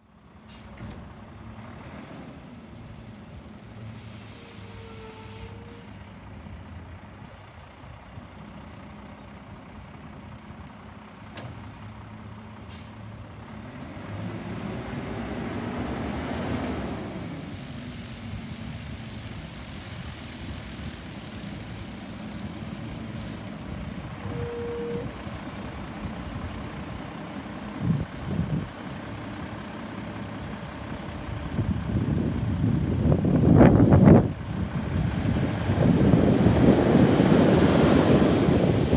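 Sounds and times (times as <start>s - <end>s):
diesel engine running: 5.7s - 38.9s.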